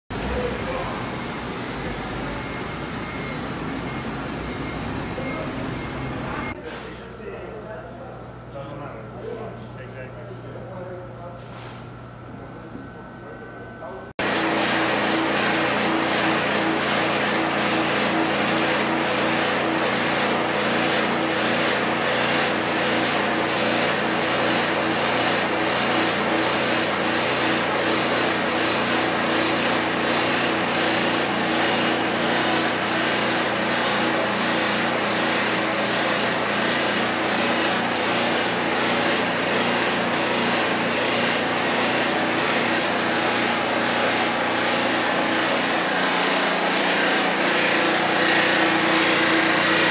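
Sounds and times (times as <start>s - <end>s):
screening machine humming: 0.1s - 6.6s, 14.2s - 49.9s.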